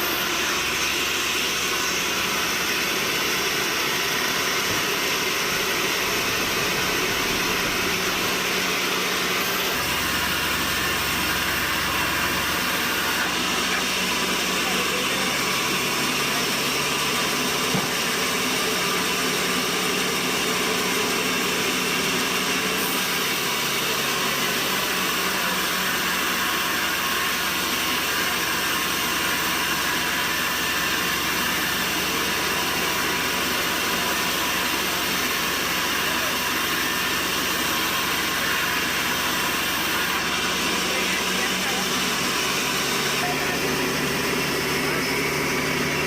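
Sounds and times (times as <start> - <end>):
sawmill machinery running: 0.0 - 46.0.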